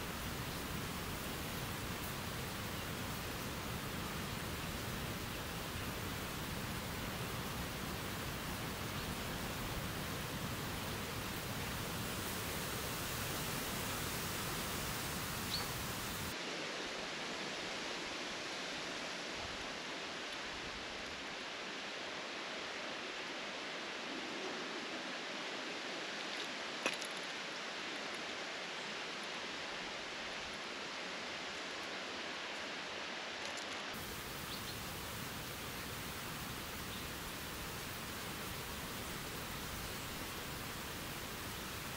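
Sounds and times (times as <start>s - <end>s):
background hiss: 0.0s - 41.9s.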